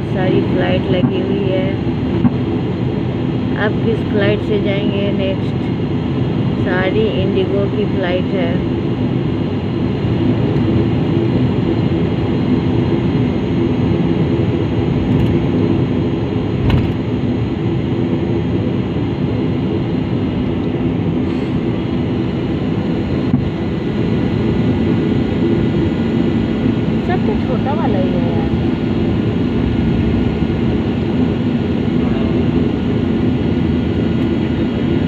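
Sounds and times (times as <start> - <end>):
jet engines idling: 0.0 - 35.0.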